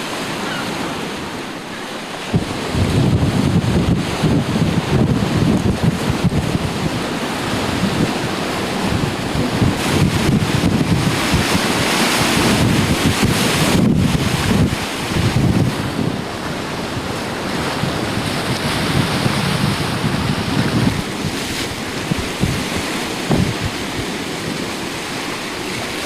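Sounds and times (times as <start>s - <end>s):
sea surf rushing: 0.0s - 26.0s
wind buffeting microphone: 0.0s - 26.0s.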